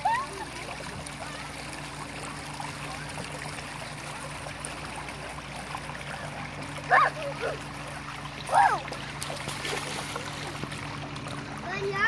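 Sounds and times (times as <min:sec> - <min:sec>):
creek water trickling over stones: 0:00.0 - 0:12.0.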